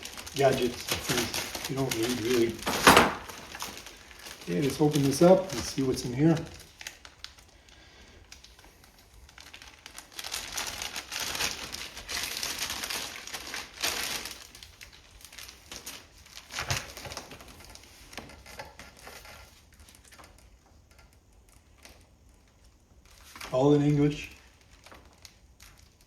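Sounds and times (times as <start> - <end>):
packaging crinkling: 0.0 - 26.0.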